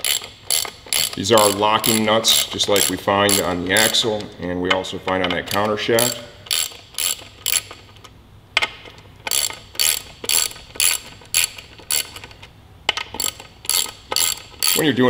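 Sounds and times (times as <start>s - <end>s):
ratchet wrench clicking: 0.0s - 4.2s, 5.5s - 15.0s.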